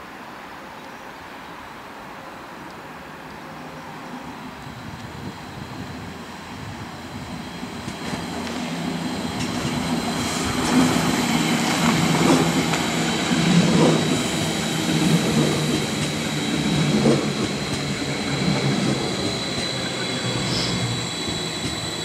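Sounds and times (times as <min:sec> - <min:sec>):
train passing with whine and hum: 0:00.5 - 0:22.0.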